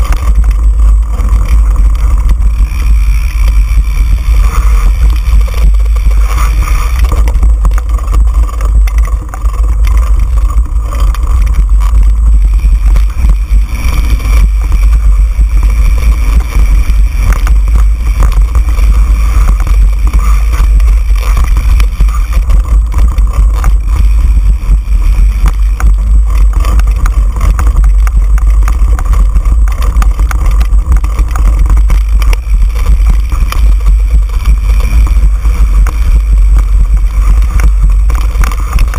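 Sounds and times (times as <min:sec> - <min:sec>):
bike rattling and knocking: 0:00.0 - 0:38.9
wind buffeting the microphone: 0:00.0 - 0:38.9.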